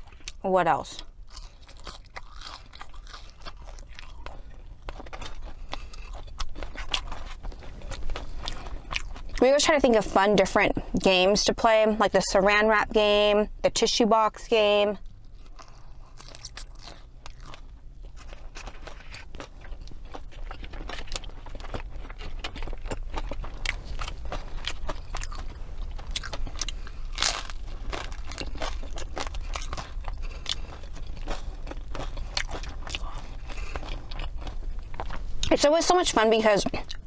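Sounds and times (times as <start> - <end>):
chewing crunchy food: 0.0 - 9.5, 15.0 - 37.0.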